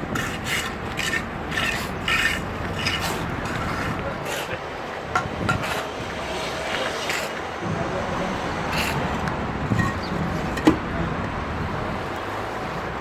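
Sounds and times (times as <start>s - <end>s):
passing street traffic: 0.0s - 13.0s.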